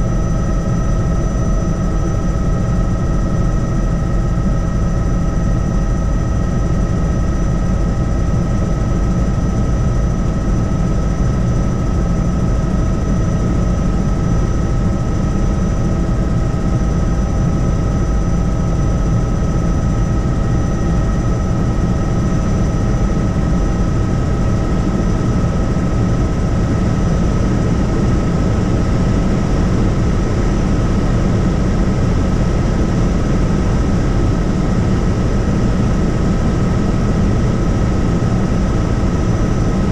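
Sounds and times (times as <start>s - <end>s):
helicopter rotor and engine drone: 0.0s - 39.9s
steady high whine: 0.0s - 39.9s.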